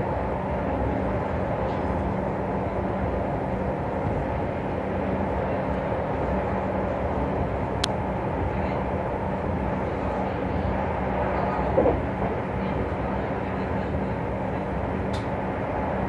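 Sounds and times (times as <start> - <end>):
constant low hum: 0.0 - 16.0
electric train rumbling: 0.0 - 16.0.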